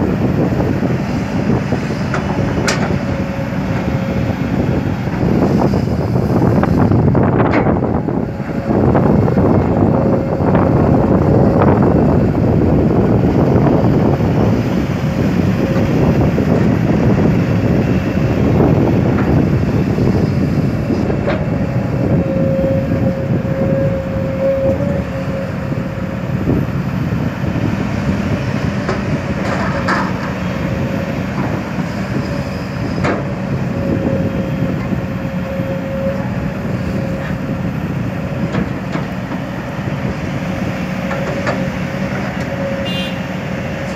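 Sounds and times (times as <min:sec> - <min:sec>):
excavator diesel engine under load: 0:00.0 - 0:43.9.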